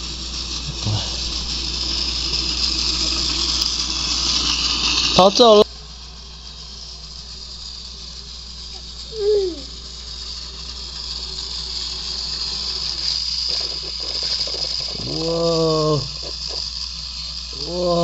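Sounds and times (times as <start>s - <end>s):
toy train motor whirring: 0.0s - 18.0s.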